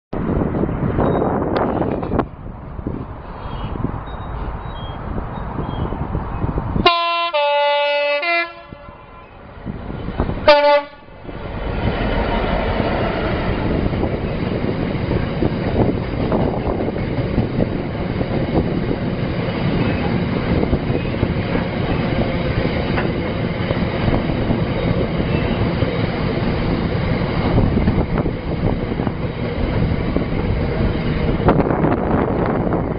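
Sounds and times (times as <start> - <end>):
train wheels rumbling on rails: 0.2 - 7.4, 8.7 - 32.9.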